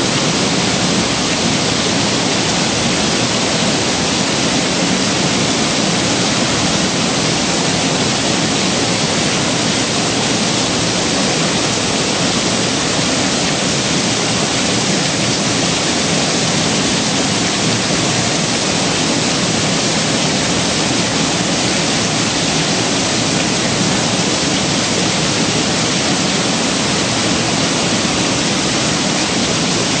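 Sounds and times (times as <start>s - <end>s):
waterfall rushing and splashing: 0.0s - 30.0s.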